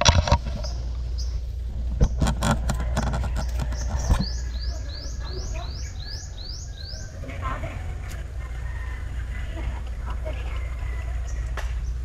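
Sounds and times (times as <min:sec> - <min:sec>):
steady low rumble: 0:00.0 - 0:12.0
bird chirping: 0:00.4 - 0:12.0.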